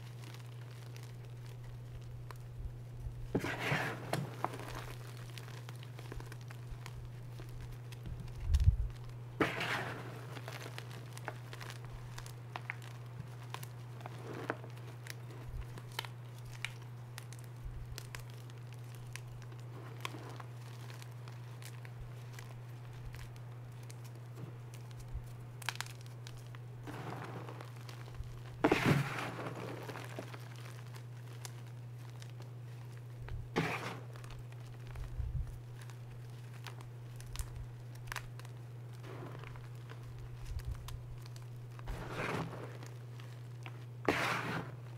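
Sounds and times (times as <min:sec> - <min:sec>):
chalk crunching and crackling: 0:00.0 - 0:44.9
steady low hum: 0:00.0 - 0:44.9.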